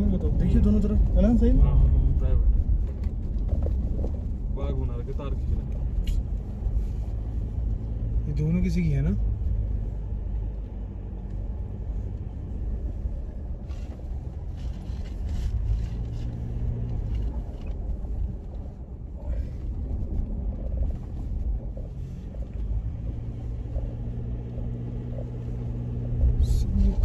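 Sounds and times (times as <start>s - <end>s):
car engine and tyres rumbling: 0.0s - 27.0s
knocks and rattles over ruts: 0.0s - 27.0s.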